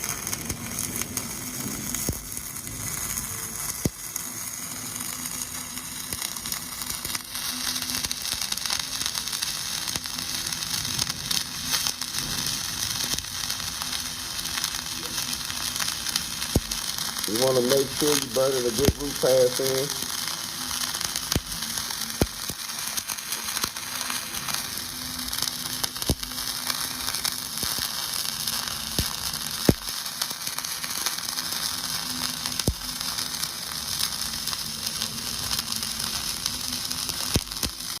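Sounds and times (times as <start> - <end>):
sharp welding pops: 0.0 - 38.0
welding arc sizzling and crackling: 0.0 - 38.0.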